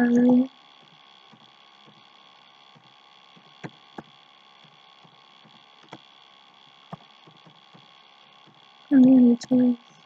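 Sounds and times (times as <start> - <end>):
steady electrical hum: 0.0 - 10.0.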